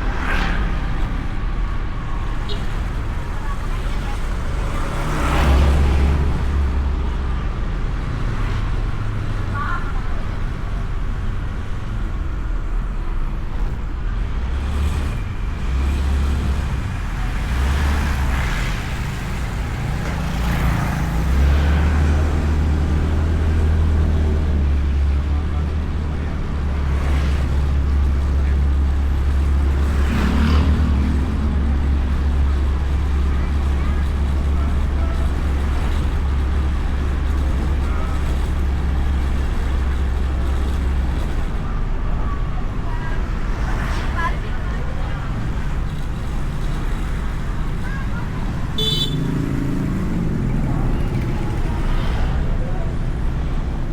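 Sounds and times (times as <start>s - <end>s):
motorbike engine and wind rumble: 0.0s - 53.9s
road traffic: 0.0s - 53.9s.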